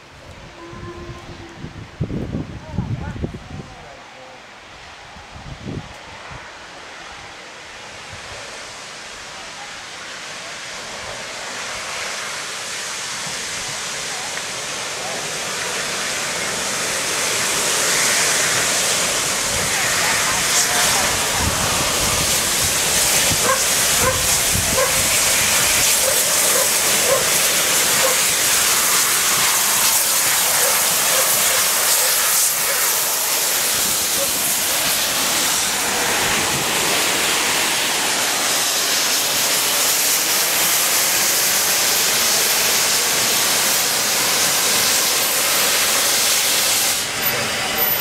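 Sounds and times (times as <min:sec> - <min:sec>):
loud hiss of steam: 0:00.0 - 0:48.0
steam locomotive passing: 0:00.0 - 0:48.0.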